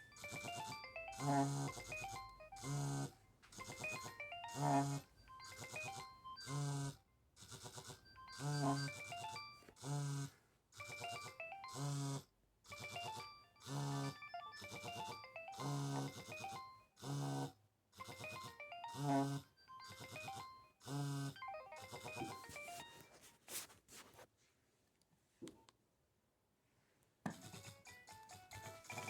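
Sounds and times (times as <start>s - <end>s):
polyphonic phone ringtone: 0.0s - 17.4s, 18.0s - 23.7s, 27.5s - 29.0s
phone vibrating and rattling: 0.0s - 23.6s.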